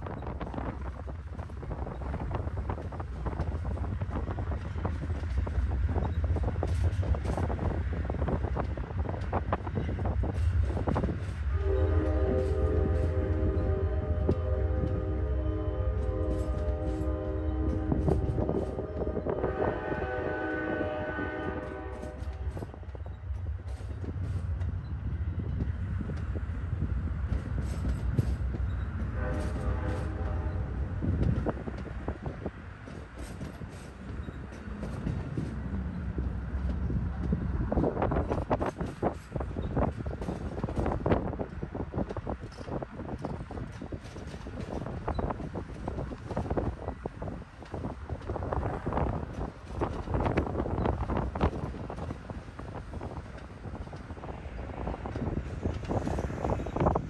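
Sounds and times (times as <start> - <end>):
train wheels clicking on rails: 0.0 - 15.1, 15.9 - 57.0
low train rumble: 0.0 - 57.0
wind buffeting microphone: 0.0 - 57.0.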